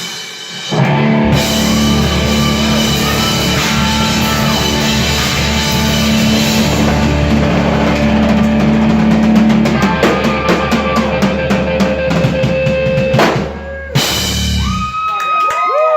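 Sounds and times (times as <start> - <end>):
live rock band playing: 0.0 - 14.9
rapid drum hits: 0.7 - 14.7.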